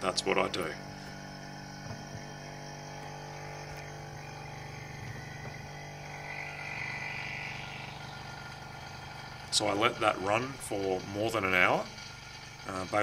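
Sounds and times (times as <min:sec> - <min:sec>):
vacuum pump humming: 0:00.0 - 0:13.0.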